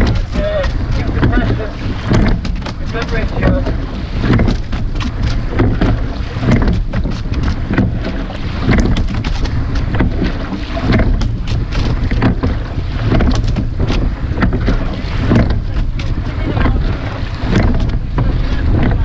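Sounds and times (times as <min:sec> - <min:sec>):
oars splashing in water: 0:00.0 - 0:19.0
wind rumble on microphone: 0:00.0 - 0:19.0.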